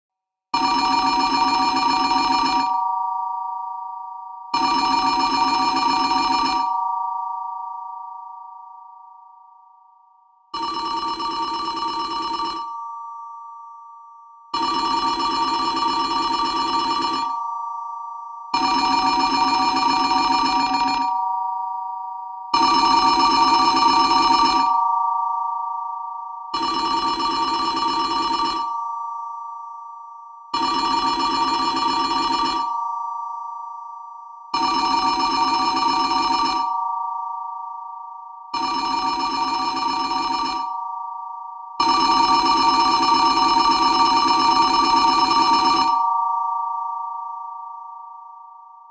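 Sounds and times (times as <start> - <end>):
telephone ringing: 0.6 - 9.3, 10.5 - 13.1, 14.5 - 29.2, 30.5 - 33.4, 34.5 - 48.9.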